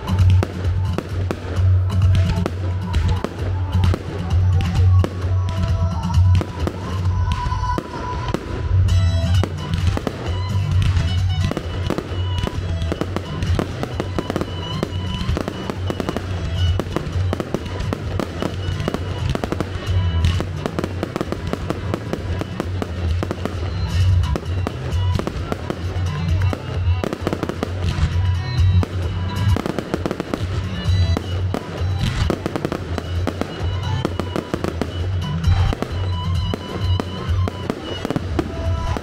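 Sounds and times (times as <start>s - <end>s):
fireworks crackling and popping: 0.0s - 39.0s
music with heavy pulsing bass: 0.0s - 39.0s.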